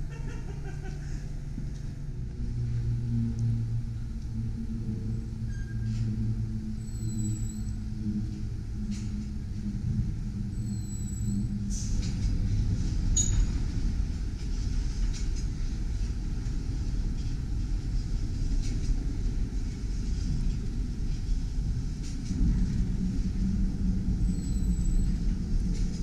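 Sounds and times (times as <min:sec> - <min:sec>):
streetcar rolling rumble: 0:00.0 - 0:26.0.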